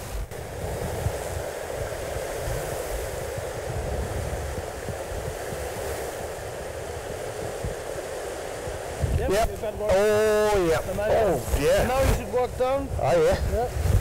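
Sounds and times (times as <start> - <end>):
fast-flowing river rushing: 0.0 - 14.0
wind rumbling on microphone: 0.0 - 14.0.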